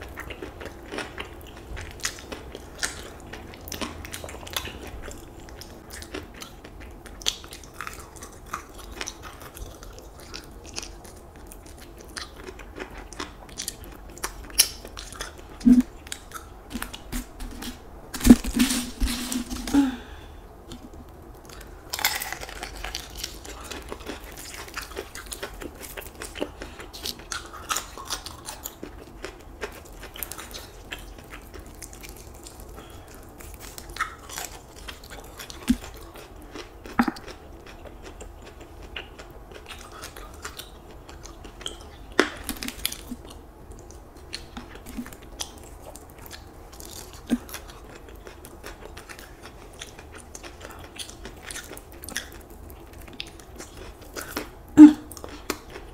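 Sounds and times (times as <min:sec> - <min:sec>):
crunchy chewing of fried chicken: 0:00.0 - 0:55.9.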